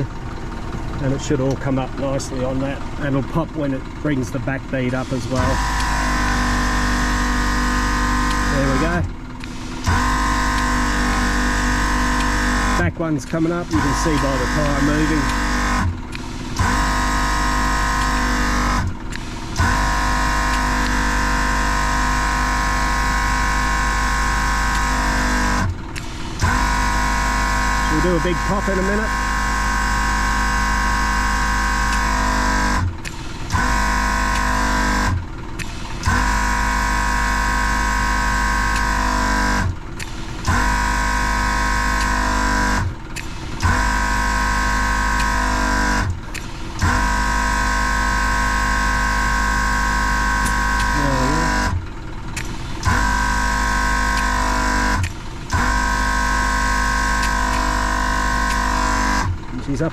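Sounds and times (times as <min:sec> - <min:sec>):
air compressor motor hum: 0:00.0 - 0:59.9.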